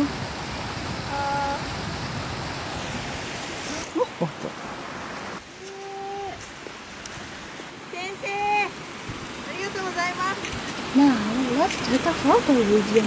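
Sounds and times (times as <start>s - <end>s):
stream and waterfall rushing: 0.0s - 13.0s.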